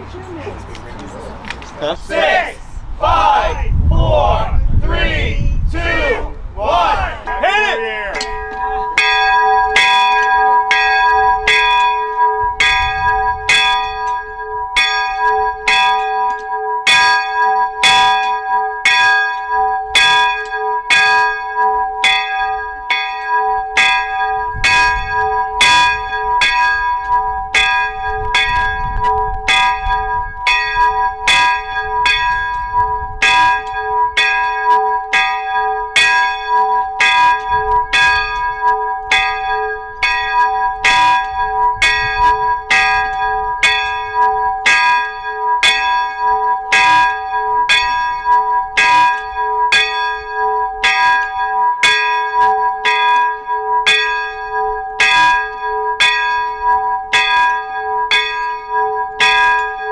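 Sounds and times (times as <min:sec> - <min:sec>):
church bell ringing: 0:07.2 - 0:59.9.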